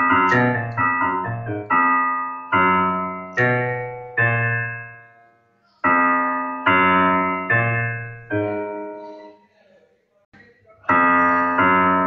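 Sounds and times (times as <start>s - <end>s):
piano music: 0.0s - 9.3s, 10.9s - 12.0s.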